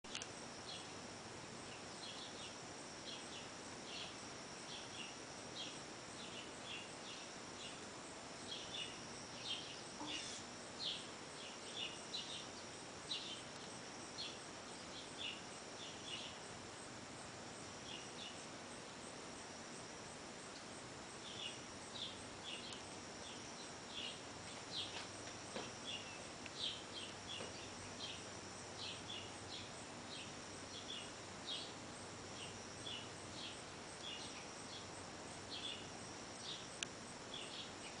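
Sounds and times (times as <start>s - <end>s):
faint steady high whine: 0.0s - 38.0s.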